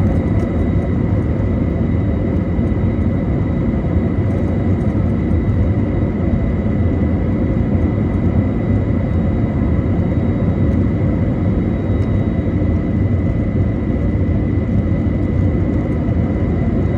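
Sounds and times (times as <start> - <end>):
thin steady whine: 0.0 - 16.9.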